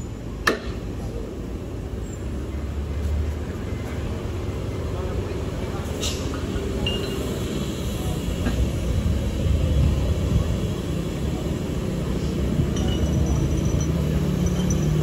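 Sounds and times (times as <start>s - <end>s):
truck engines rumbling: 0.0s - 15.0s.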